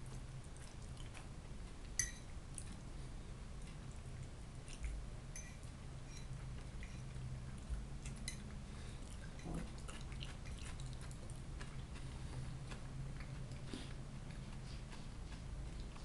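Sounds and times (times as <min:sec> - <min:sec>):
chewing fried potatoes: 0:00.0 - 0:16.0.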